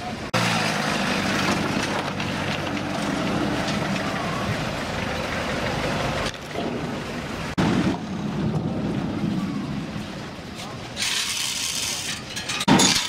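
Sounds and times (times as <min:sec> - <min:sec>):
outdoor noise: 0:00.0 - 0:13.0
truck engines running: 0:00.0 - 0:13.0.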